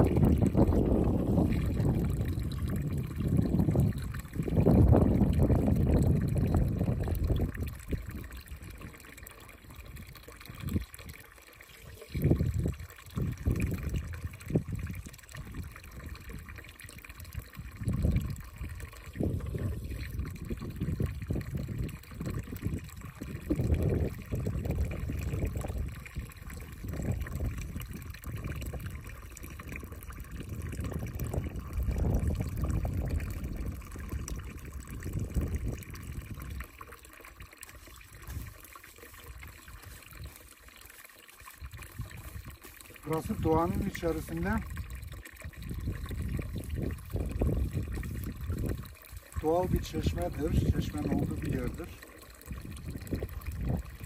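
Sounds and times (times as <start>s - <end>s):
water trickling from fountain: 0.0s - 54.0s.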